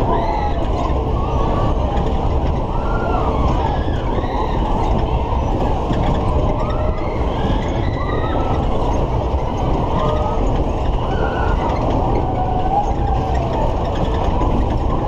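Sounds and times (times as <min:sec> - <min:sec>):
fairground ride rushing rumble: 0:00.0 - 0:15.0.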